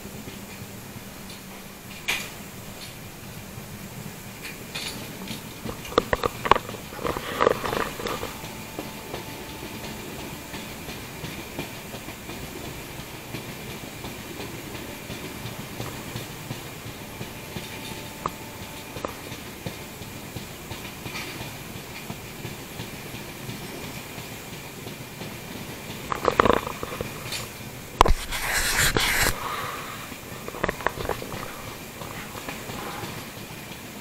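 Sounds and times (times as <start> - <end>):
train wheels rushing on rails: 0.0 - 28.1, 29.3 - 34.0.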